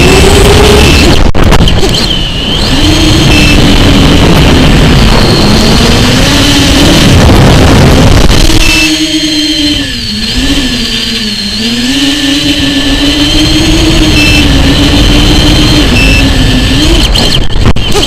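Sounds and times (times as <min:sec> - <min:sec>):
electric motor buzzing drone: 0:00.0 - 0:18.0
thin high whine: 0:00.0 - 0:18.0.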